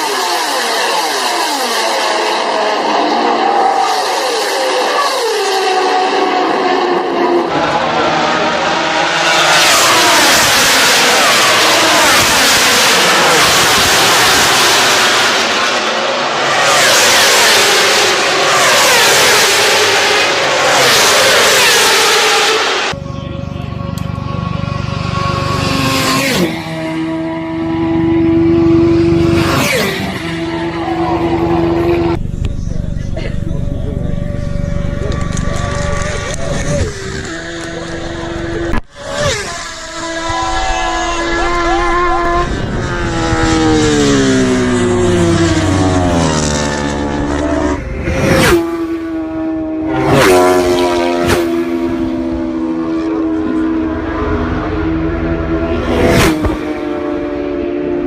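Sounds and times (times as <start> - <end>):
motorcycles passing by: 0.0 - 58.0
racing motorcycle engines wailing: 0.0 - 58.0.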